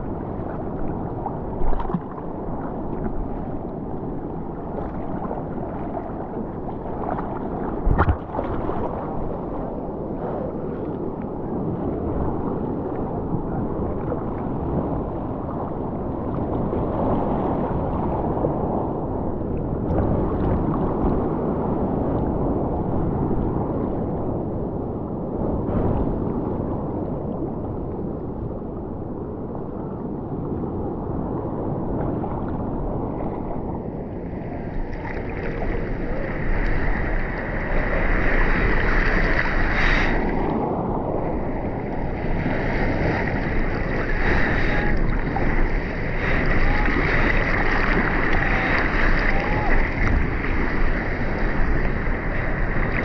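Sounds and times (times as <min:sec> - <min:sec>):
sea water sloshing and gurgling: 0:00.0 - 0:53.0.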